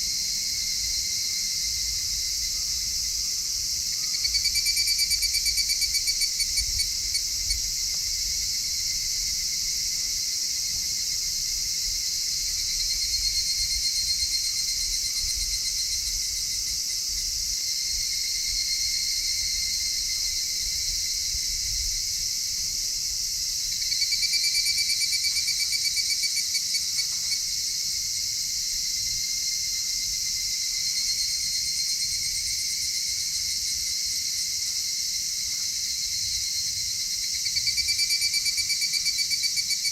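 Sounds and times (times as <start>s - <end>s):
insect chorus high shrill: 0.0s - 39.9s.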